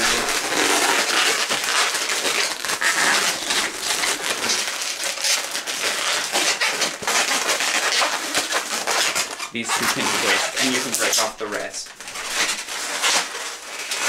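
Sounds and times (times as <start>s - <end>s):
balloons rubbing and crackling: 0.0s - 14.0s.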